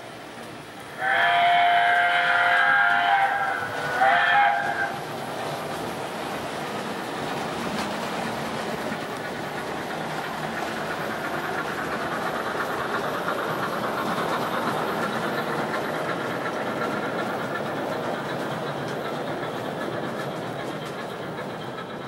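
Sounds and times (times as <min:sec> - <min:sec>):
model train wheels rattling: 0:01.3 - 0:22.0.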